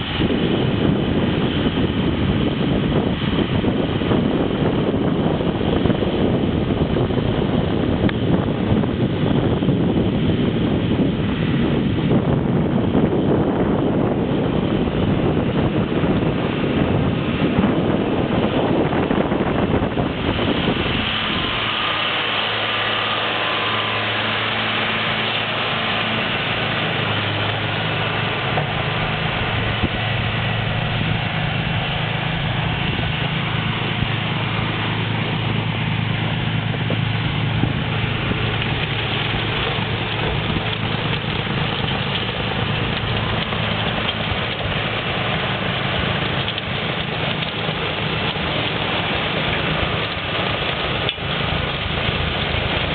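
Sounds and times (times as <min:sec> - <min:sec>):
snowblower rushing noise: 0:00.0 - 0:52.9
tractor diesel engine running: 0:00.0 - 0:52.9
wind buffeting microphone: 0:00.0 - 0:52.9.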